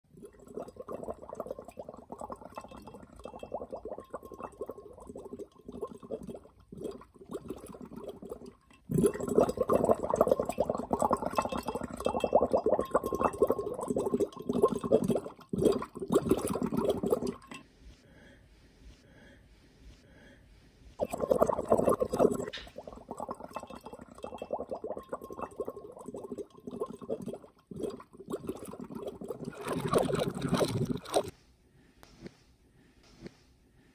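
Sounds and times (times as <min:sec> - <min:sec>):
water bubbling and gurgling: 0:00.1 - 0:17.6, 0:21.0 - 0:31.3.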